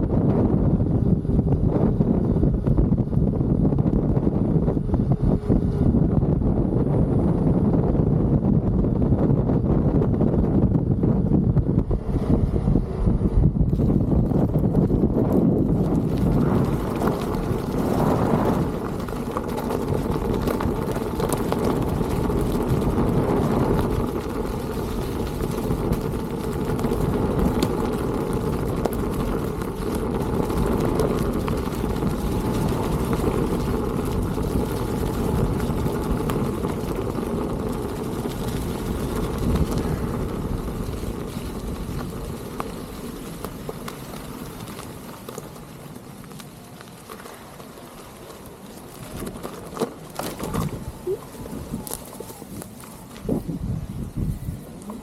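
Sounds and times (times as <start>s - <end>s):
tyre rumble: 0.0s - 55.0s
wind buffeting microphone: 0.0s - 55.0s.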